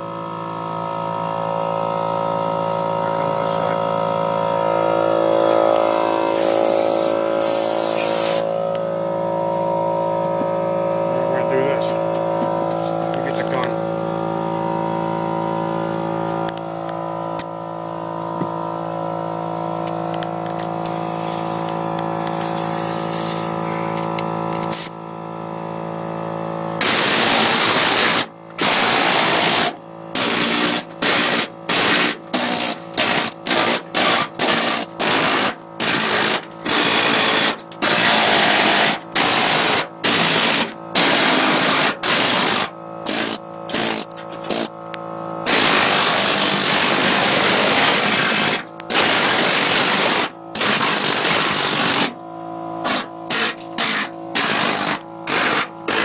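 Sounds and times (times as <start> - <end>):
steady hum with tones: 0.0 - 56.0.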